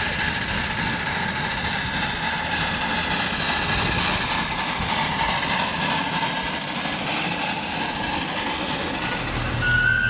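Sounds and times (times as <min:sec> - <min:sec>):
steam hiss and running noise: 0:00.0 - 0:10.0.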